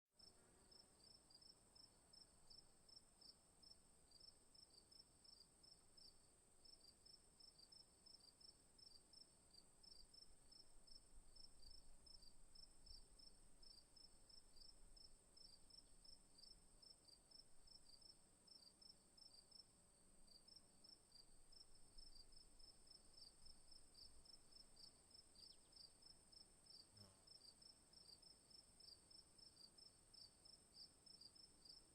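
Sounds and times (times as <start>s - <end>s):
crickets chirping: 0.2s - 31.9s.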